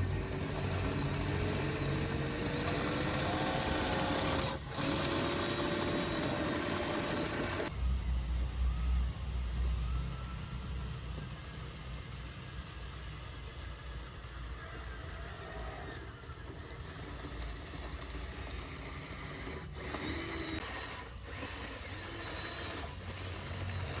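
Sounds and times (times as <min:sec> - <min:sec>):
small electric motors whirring: 0:00.0 - 0:07.8, 0:08.6 - 0:24.0.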